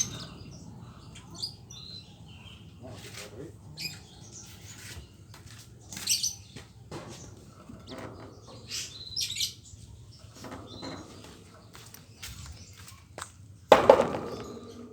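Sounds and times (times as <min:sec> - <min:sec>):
canary singing: 0:00.0 - 0:02.9, 0:03.8 - 0:13.0.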